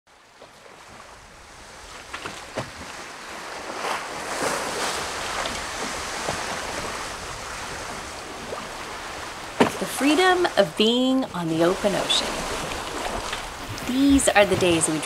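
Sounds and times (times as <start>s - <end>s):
wind and waves rushing: 0.1s - 15.0s.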